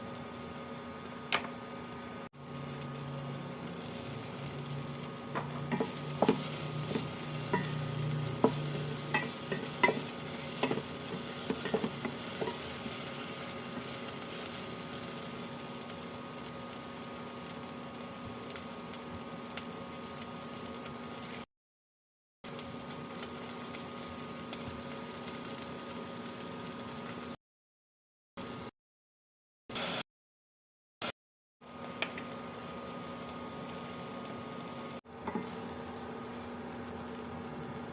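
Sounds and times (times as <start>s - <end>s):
food sizzling in a frying pan: 0.0s - 21.5s, 22.5s - 27.4s, 31.6s - 37.9s.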